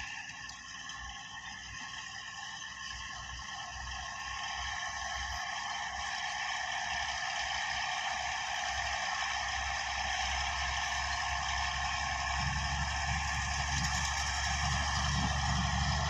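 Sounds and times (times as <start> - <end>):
bulldozer running: 0.0 - 16.0.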